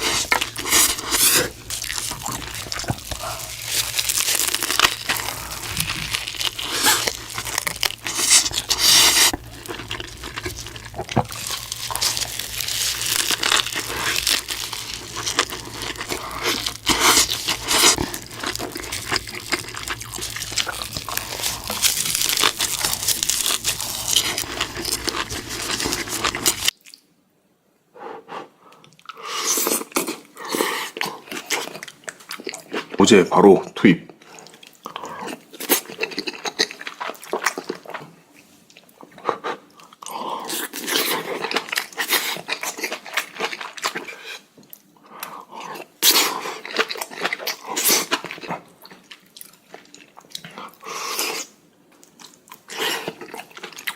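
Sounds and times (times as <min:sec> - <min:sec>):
crunching food eating: 0:00.0 - 0:27.1, 0:28.9 - 0:33.2, 0:34.2 - 0:53.9.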